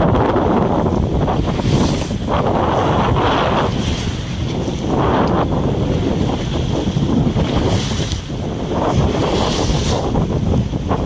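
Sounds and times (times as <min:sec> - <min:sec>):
waves around boat: 0:00.0 - 0:11.0
wind buffeting microphone: 0:00.0 - 0:11.0.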